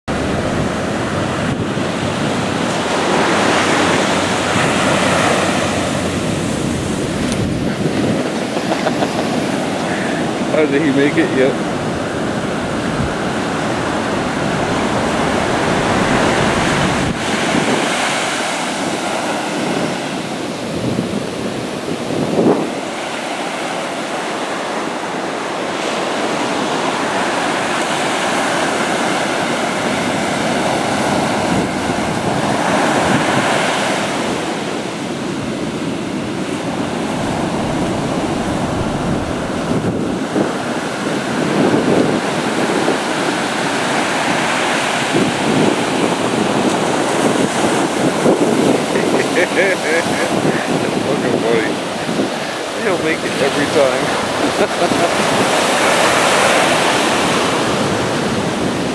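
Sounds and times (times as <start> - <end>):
ocean surf breaking on beach: 0.0 - 58.9
wind on microphone: 0.0 - 58.9.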